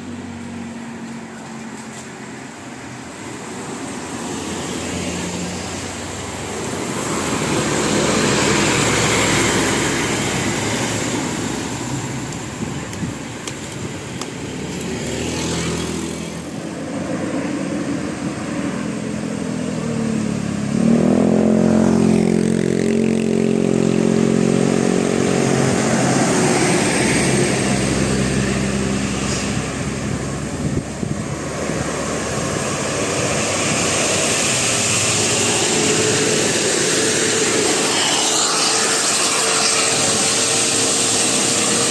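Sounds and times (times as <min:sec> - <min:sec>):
heavy vehicle engine droning past: 0:00.0 - 0:13.3, 0:14.0 - 0:41.9
road traffic passing: 0:00.0 - 0:41.9.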